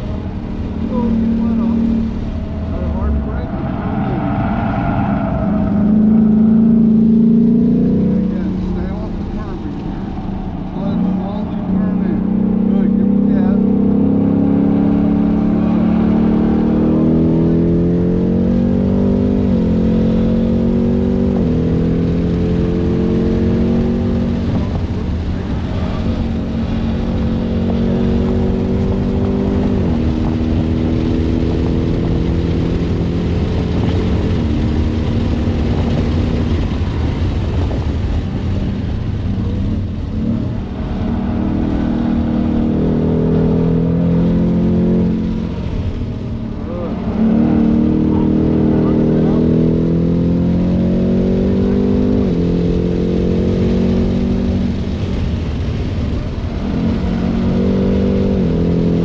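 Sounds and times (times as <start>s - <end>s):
car engine accelerating hard: 0.0s - 59.0s
road and wind noise: 0.0s - 59.0s.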